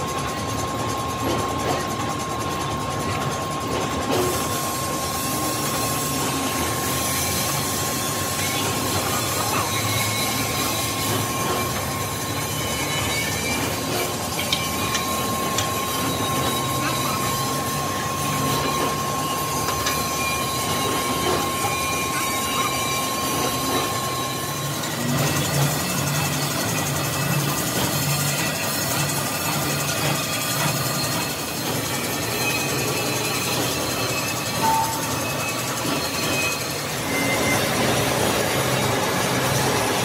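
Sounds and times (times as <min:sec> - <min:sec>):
heavy machinery droning: 0:00.0 - 0:40.0
thin high whine: 0:00.0 - 0:40.0.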